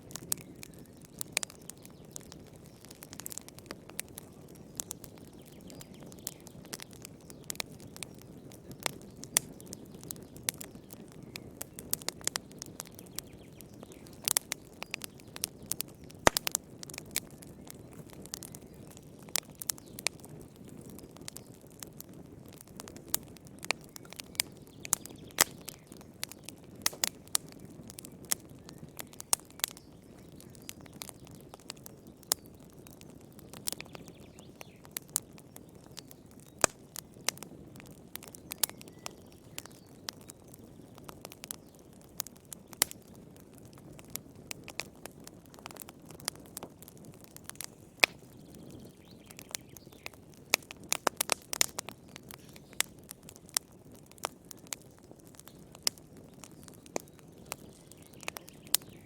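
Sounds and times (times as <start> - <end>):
low rush of flames: 0.0 - 34.0, 40.5 - 59.0
firewood crackling and popping: 0.0 - 59.0.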